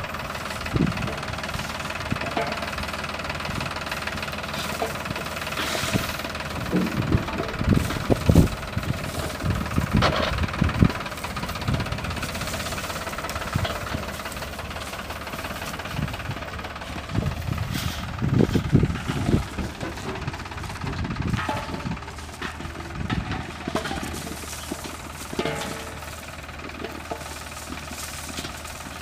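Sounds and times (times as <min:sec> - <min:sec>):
harvester knocks and clatter: 0:00.0 - 0:29.0
tractor engine running: 0:00.0 - 0:29.0.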